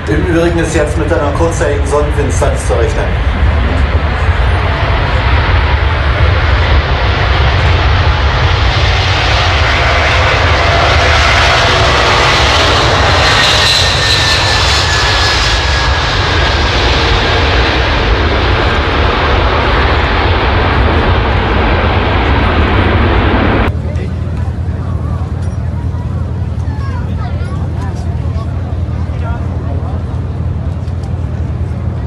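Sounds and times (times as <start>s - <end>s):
faint descending engine whine: 0.0s - 32.0s
jet engines rumbling: 0.0s - 32.0s.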